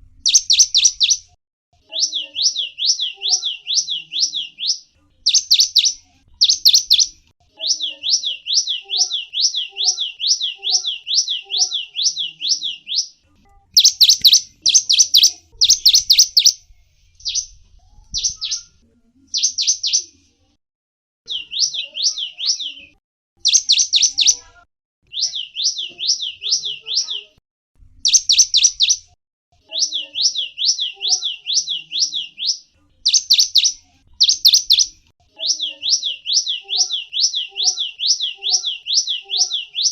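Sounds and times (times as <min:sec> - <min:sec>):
songbird chirping rapidly: 0:00.0 - 0:20.3, 0:21.3 - 0:27.4, 0:28.0 - 0:39.9.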